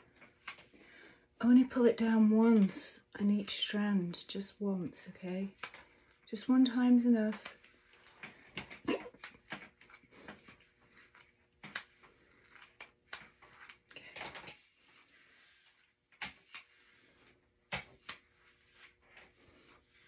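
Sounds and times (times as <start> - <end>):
soft rustling of hair: 1.4 - 20.0.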